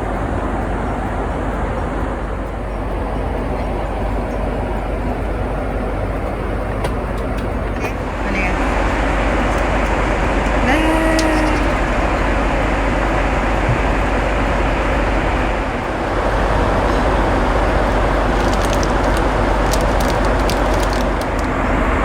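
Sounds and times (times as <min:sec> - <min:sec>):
jet airliner cabin roar: 0:00.0 - 0:22.0.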